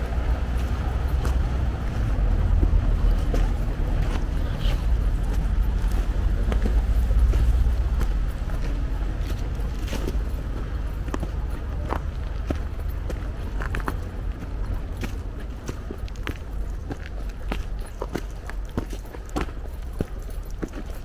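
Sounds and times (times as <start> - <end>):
footsteps on gravel and leaves: 0.0 - 21.0.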